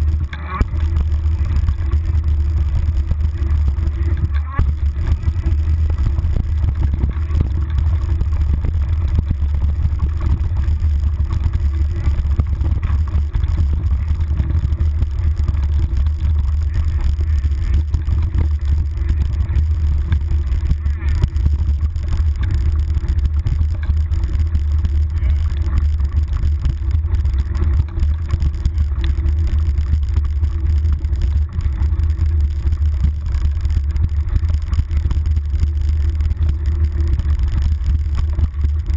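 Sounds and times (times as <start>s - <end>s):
bike rattles and knocks: 0.0s - 38.9s
wind and vibration rumble: 0.0s - 38.9s.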